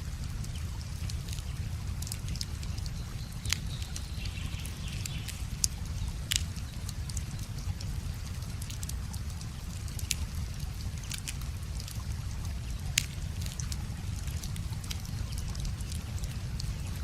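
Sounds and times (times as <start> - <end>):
river flowing: 0.0 - 17.0
wood fire crackling and popping: 0.0 - 17.0.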